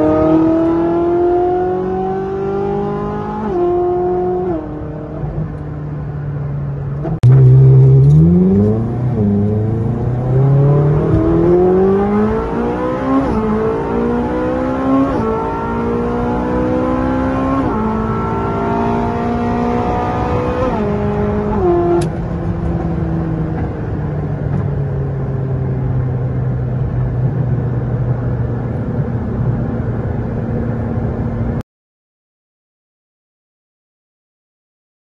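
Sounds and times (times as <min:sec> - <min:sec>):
car engine accelerating and shifting: 0:00.0 - 0:31.6.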